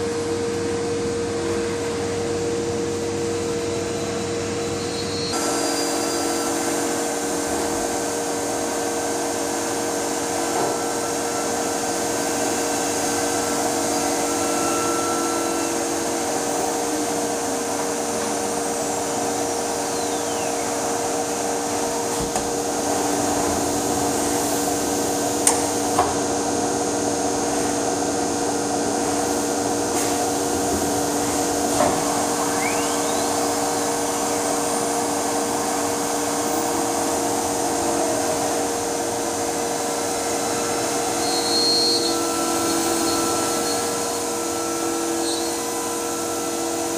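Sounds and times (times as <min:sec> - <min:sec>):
machine hum with whining tone: 0:00.0 - 0:46.9
hiss: 0:05.3 - 0:46.9.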